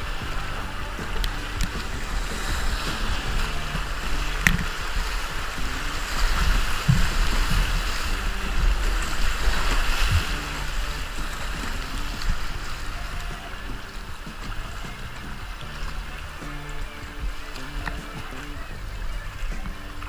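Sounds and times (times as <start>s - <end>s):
low rumble: 0.0s - 20.0s
river water rushing and splashing: 0.0s - 20.0s.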